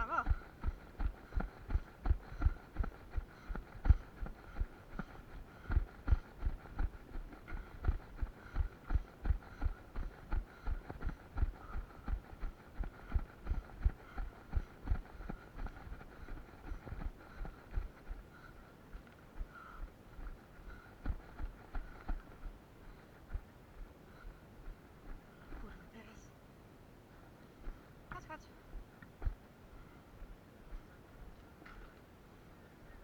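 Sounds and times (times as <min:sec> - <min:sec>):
running footsteps: 0:00.0 - 0:25.9, 0:27.6 - 0:32.0.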